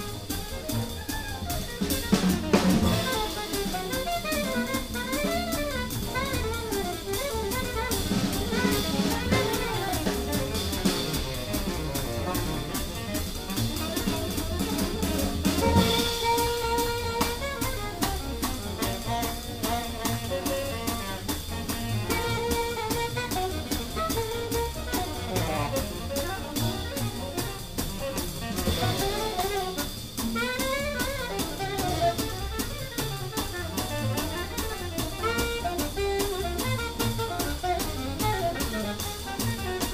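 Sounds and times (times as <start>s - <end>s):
drum kit cymbal and snare: 0.0s - 39.9s.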